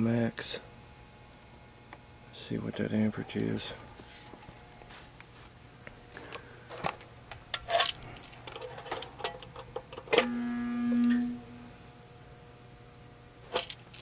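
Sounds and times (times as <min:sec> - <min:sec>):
compressor humming: 0:00.0 - 0:14.0.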